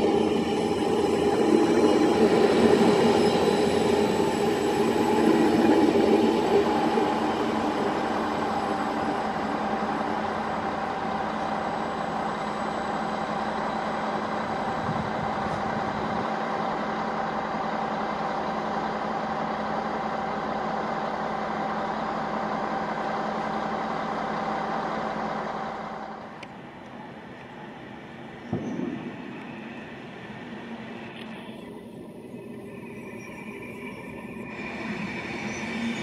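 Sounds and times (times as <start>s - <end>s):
electric train hum: 0.0s - 36.0s
train rolling noise: 0.0s - 36.0s.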